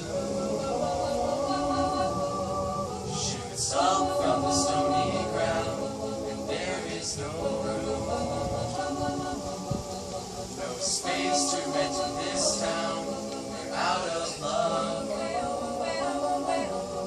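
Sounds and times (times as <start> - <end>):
a cappella choir singing: 0.0 - 17.0.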